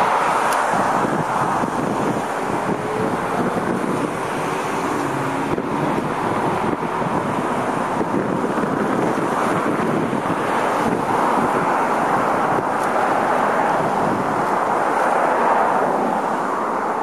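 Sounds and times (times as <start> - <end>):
road traffic: 0.0 - 17.0
wind on microphone: 0.0 - 17.0.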